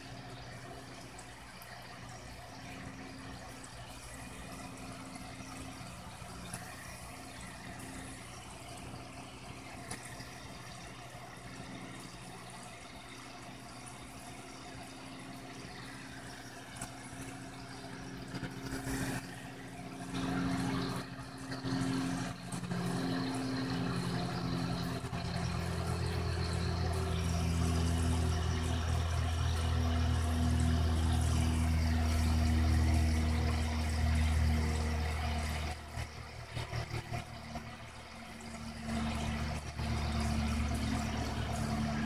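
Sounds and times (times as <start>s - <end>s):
faint water noise: 0.0s - 42.0s
steady low hum: 0.0s - 42.0s.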